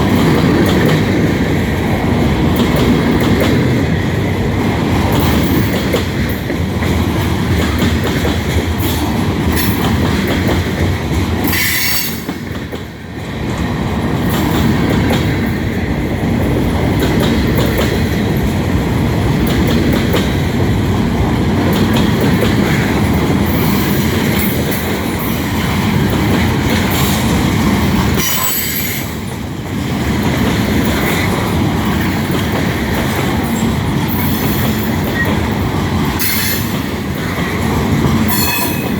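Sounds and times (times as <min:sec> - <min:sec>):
train wheels clattering over joints: 0:00.0 - 0:38.9.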